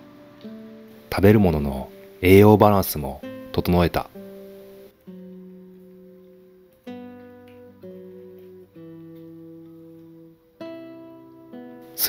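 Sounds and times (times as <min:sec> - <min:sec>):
soft acoustic guitar chords: 0:00.0 - 0:12.0.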